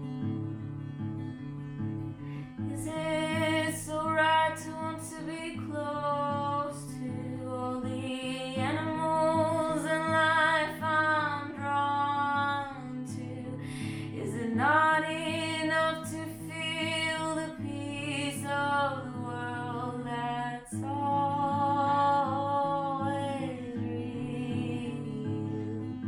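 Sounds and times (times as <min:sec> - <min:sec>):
acoustic guitar pattern: 0:00.0 - 0:26.0
woman singing: 0:02.6 - 0:26.0.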